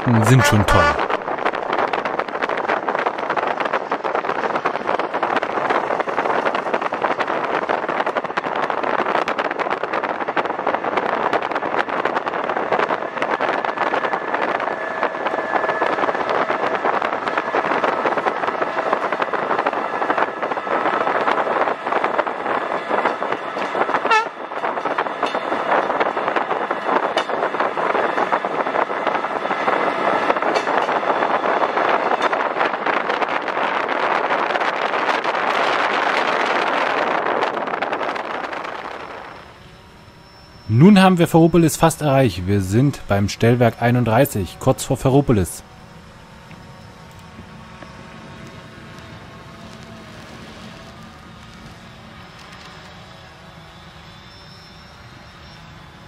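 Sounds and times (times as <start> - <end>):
diesel railcar rushing at speed: 0.0 - 56.0.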